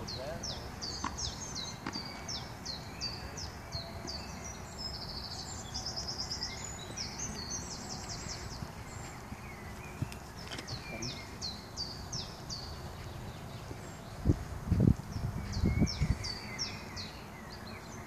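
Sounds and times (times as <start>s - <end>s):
low background noise: 0.0s - 18.0s
songbirds singing: 0.0s - 18.0s.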